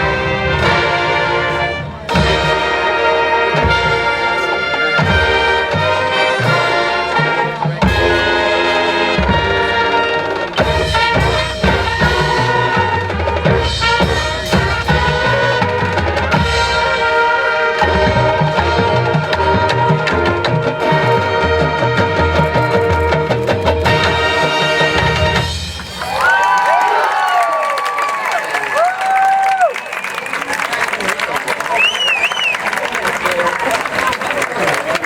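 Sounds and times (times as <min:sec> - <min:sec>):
drumline hits: 0:00.0 - 0:30.0
brass section: 0:00.0 - 0:35.0
marching band playing: 0:00.0 - 0:35.0.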